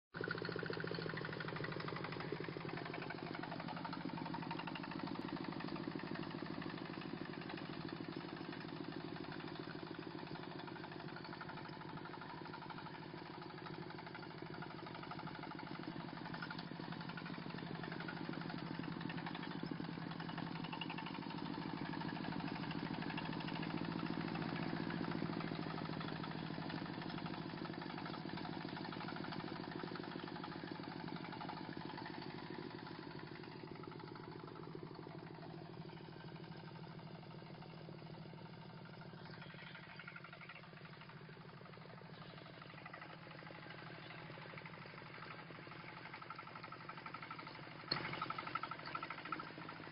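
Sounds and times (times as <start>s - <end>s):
diesel engine chattering: 0.2s - 49.9s.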